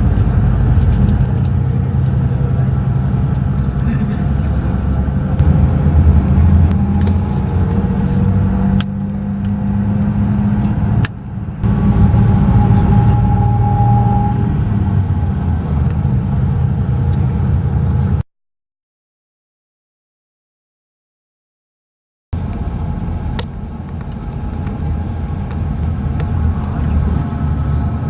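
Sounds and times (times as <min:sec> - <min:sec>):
vehicle motor rumble: 0:00.0 - 0:18.2, 0:22.4 - 0:28.0.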